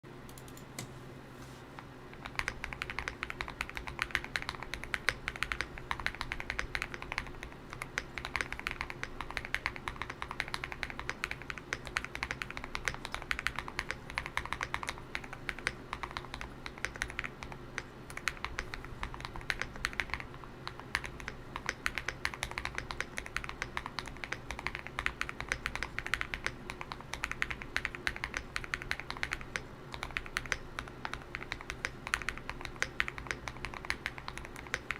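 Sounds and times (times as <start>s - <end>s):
fast typing on mechanical keyboard: 2.1s - 34.9s.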